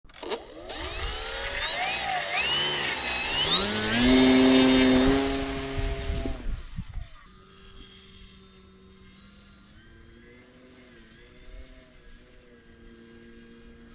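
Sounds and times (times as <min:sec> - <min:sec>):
model plane electric motor whining: 0:00.1 - 0:13.9.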